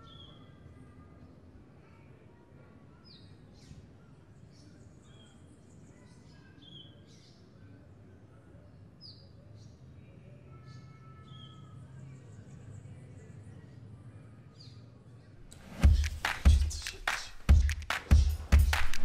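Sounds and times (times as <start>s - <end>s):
faint birds chirping: 0.0s - 18.9s.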